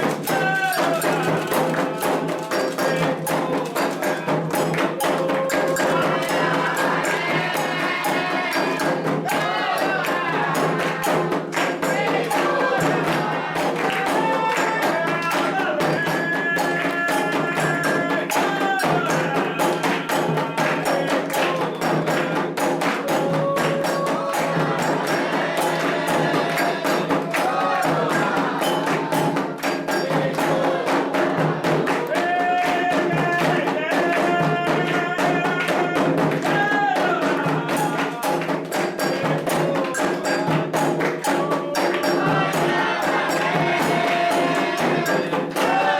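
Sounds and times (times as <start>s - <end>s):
hand drums and percussion: 0.0s - 45.9s
voices singing chant lines: 0.0s - 45.9s.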